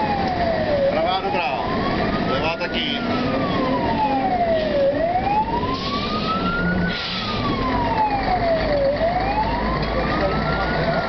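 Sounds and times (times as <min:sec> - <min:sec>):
fire engine siren wailing: 0:00.0 - 0:11.0
truck engine and road noise: 0:00.0 - 0:11.0.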